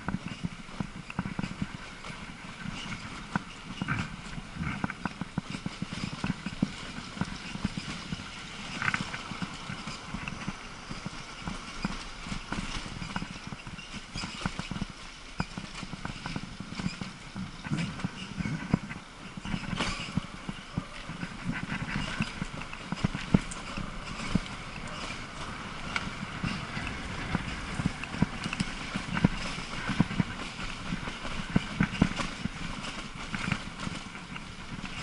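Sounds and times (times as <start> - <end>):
bike rattling over cobblestones: 0.0 - 35.0.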